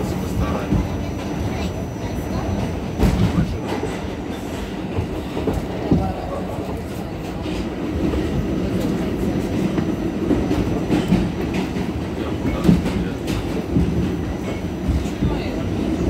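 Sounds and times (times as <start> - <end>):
subway wheels rumbling on rail: 0.0 - 16.0.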